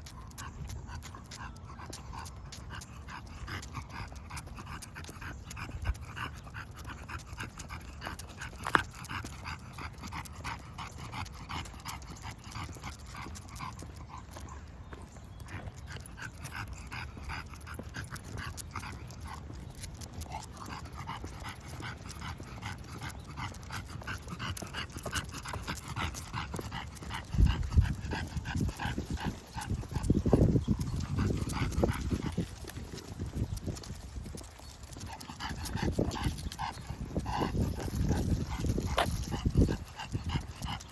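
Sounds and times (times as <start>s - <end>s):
dog panting: 0.0s - 40.9s.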